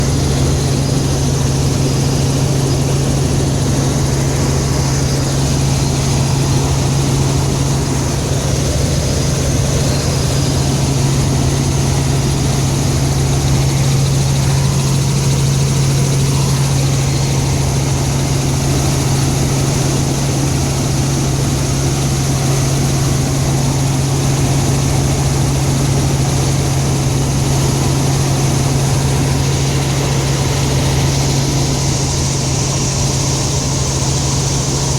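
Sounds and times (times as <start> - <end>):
helicopter cabin drone: 0.0 - 34.9.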